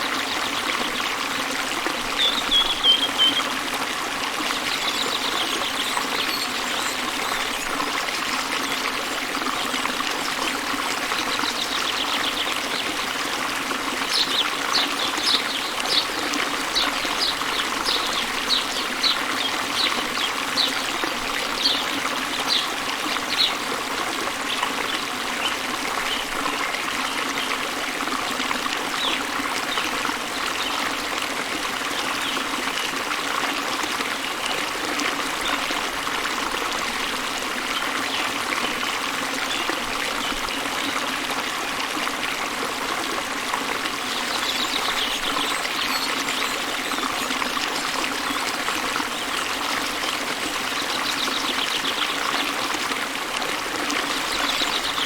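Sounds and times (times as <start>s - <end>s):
waterfall water running: 0.0s - 55.0s.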